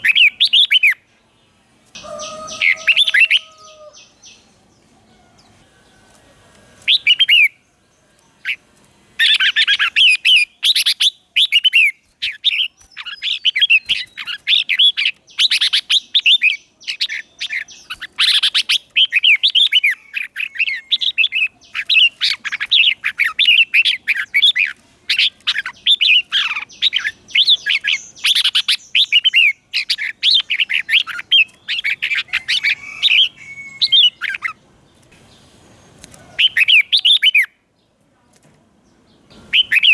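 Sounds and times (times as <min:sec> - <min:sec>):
bird singing chirps and warbles: 0:00.0 - 0:06.2, 0:06.8 - 0:38.0, 0:38.8 - 0:39.9.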